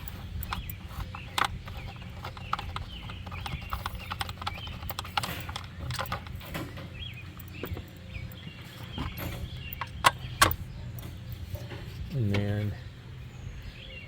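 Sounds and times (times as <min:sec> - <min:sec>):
hands and tools clicking and knocking: 0:00.0 - 0:12.5.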